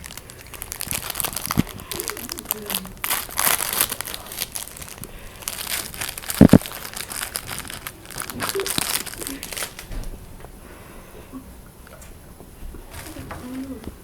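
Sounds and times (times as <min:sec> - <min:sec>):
wrapper crinkling: 0:00.0 - 0:10.1, 0:12.9 - 0:14.0.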